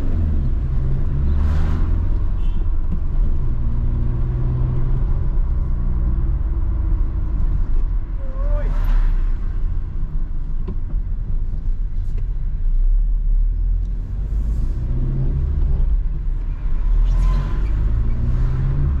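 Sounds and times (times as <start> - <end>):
car engine hum: 0.0 - 19.0
road noise rumble: 0.0 - 19.0.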